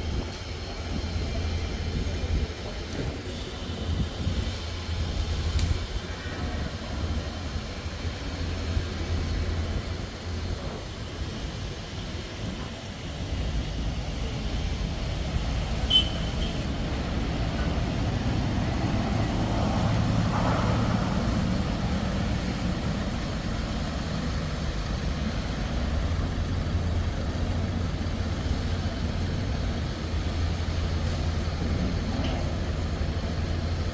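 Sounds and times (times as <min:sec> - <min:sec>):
traffic rumble: 0:00.0 - 0:33.9.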